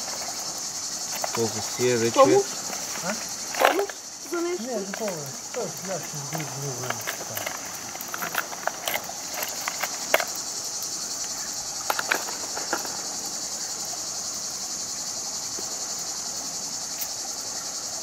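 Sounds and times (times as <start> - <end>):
insect chorus shrilling: 0.0 - 18.0.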